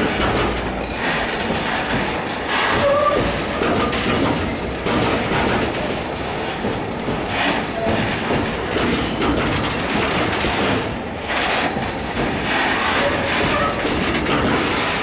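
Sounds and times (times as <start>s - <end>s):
steel wheels rumbling on rail: 0.0s - 15.0s
wheels clicking over rail joints: 0.0s - 15.0s.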